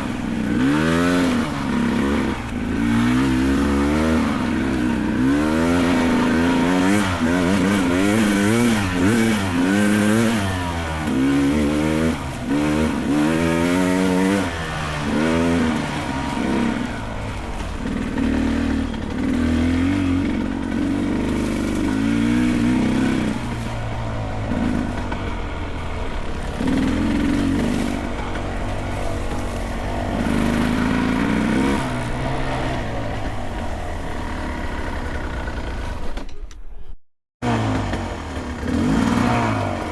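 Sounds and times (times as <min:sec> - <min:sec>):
dirt bike engine revving: 0:00.0 - 0:36.4, 0:37.4 - 0:39.9.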